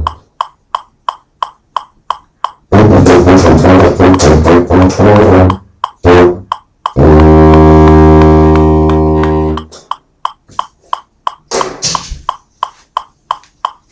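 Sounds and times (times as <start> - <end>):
metronome ticking: 0.0 - 13.9.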